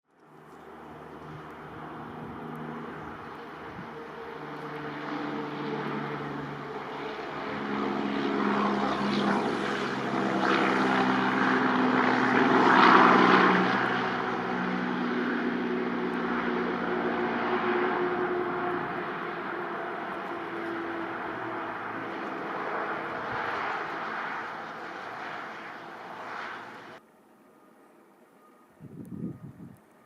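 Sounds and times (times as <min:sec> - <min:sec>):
low mechanical drone: 0:00.1 - 0:28.2
strong wind gusting: 0:01.4 - 0:05.0, 0:05.6 - 0:27.0, 0:28.8 - 0:29.8.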